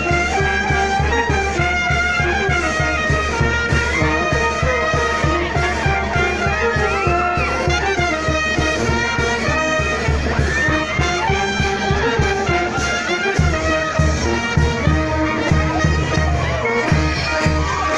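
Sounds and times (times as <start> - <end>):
brass band music: 0.0 - 17.9.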